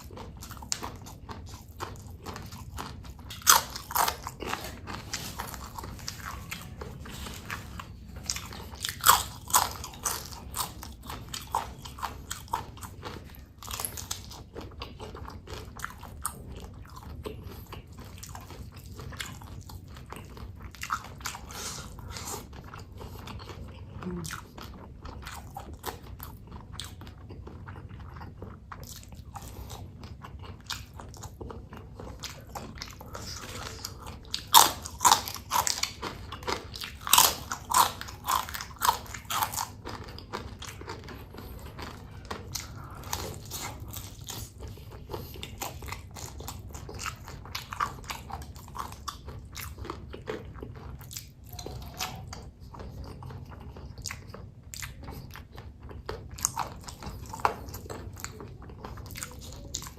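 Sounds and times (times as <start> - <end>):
person crunching food: 0.0 - 59.9.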